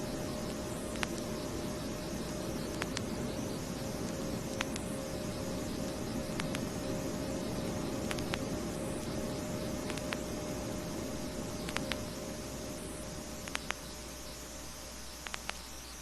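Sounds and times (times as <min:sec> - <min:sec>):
faint hum: 0:00.0 - 0:16.0
vinyl record crackle: 0:00.0 - 0:16.0.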